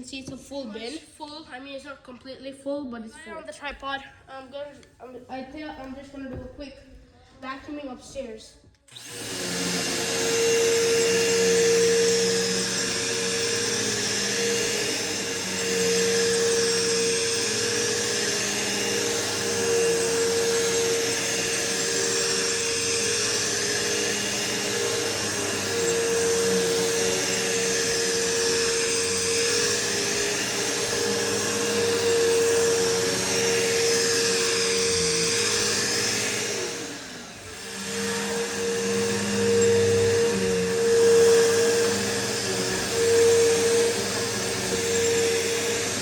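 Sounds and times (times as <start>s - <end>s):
vacuum cleaner running: 0.0s - 1.0s, 8.8s - 46.0s.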